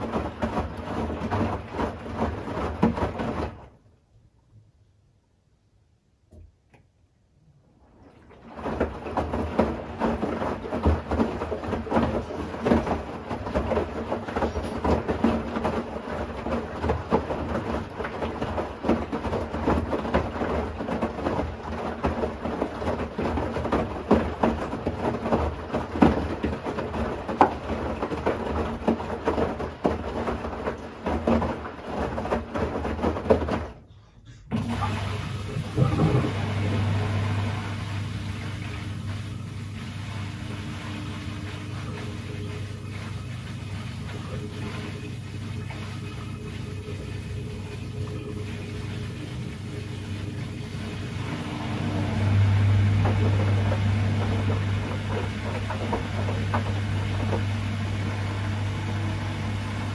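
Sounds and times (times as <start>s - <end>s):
splashes and knocks against glass: 0.0s - 3.8s, 8.1s - 33.8s, 38.4s - 58.0s
washing machine drum tumbling: 0.0s - 3.8s, 7.9s - 33.9s, 34.5s - 59.9s
water sloshing: 7.9s - 33.8s, 34.6s - 59.9s.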